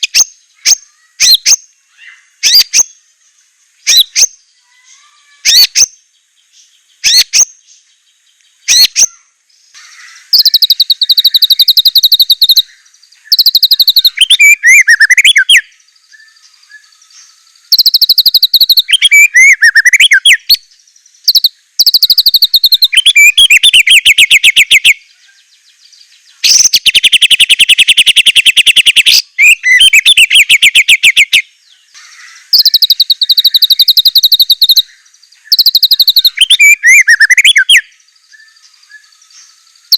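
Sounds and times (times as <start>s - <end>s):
songbird singing fast trills: 0.0s - 39.9s.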